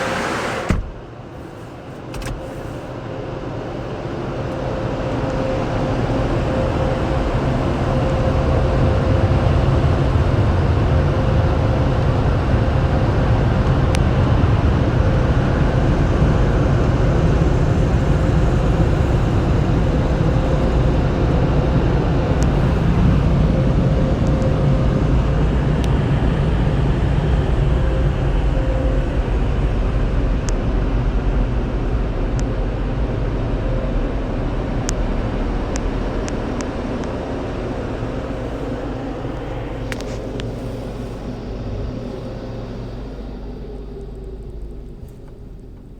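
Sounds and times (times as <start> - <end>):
car wash machinery rushing: 0.0 - 45.9
faint steady hum: 0.0 - 45.9.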